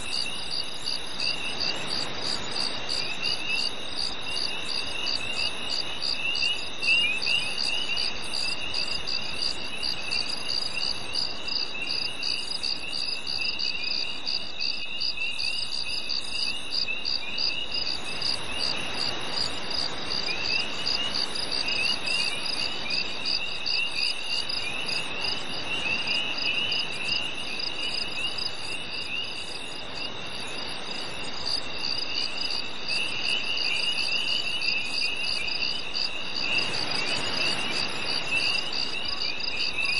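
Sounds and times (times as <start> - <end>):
fast pulsed cricket chirping: 0.0 - 39.9
low rough cricket trilling: 0.0 - 39.9.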